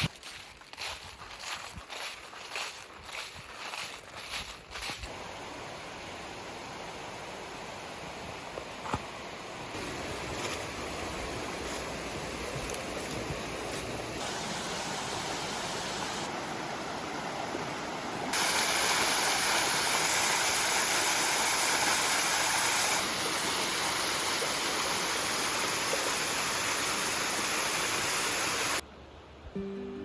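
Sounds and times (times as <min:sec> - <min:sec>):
rushing water of a stream: 0:00.0 - 0:29.3.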